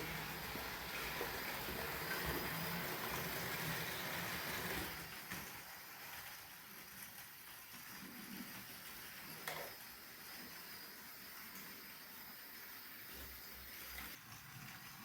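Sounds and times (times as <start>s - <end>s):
model train motor humming on track: 0.0s - 15.0s.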